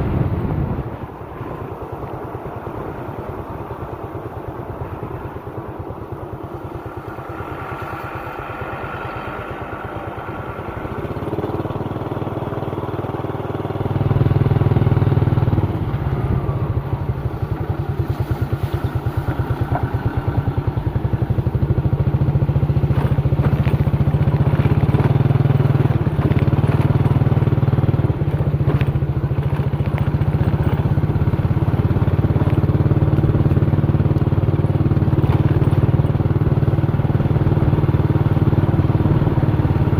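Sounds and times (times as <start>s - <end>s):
truck engine running hard: 0.0s - 39.9s.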